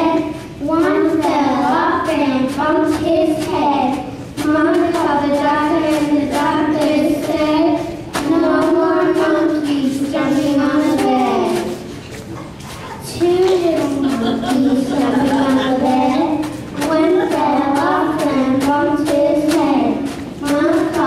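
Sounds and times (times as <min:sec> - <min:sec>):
girls singing together: 0:00.0 - 0:21.0.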